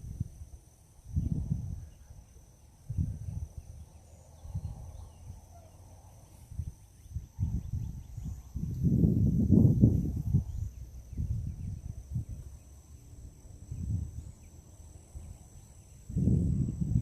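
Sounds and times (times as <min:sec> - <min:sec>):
wind buffeting microphone: 0:00.0 - 0:02.1, 0:02.8 - 0:05.5, 0:06.4 - 0:12.6, 0:13.2 - 0:14.5, 0:15.1 - 0:17.0
high-pitched insect trill: 0:00.0 - 0:17.0.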